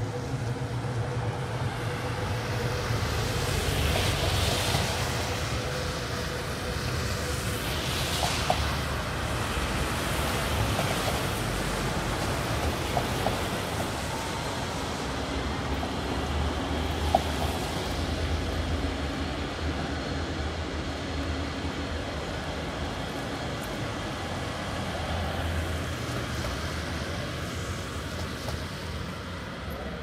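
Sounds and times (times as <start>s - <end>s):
rain and traffic hiss: 0.0s - 30.0s.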